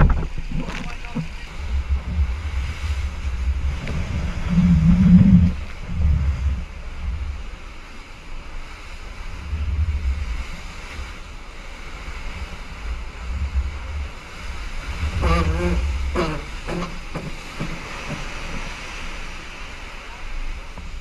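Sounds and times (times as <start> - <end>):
rushing water: 0.0 - 21.0
wind buffeting microphone: 0.0 - 21.0.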